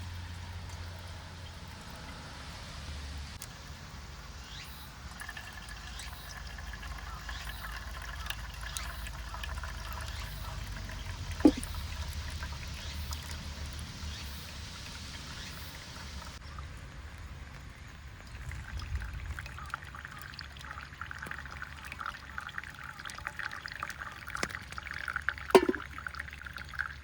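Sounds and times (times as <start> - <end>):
water trickling: 0.0 - 27.0.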